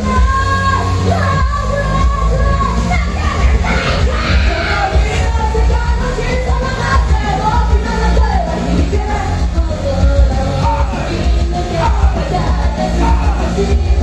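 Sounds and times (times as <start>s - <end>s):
drums: 0.0s - 14.0s
heavy bass: 0.0s - 14.0s
lead vocal singing: 0.0s - 14.0s.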